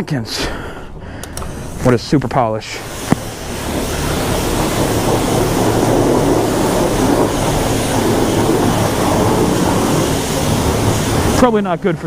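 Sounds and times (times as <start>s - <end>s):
low hum: 0.8s - 12.0s
pressure washer spray hissing: 1.3s - 12.0s.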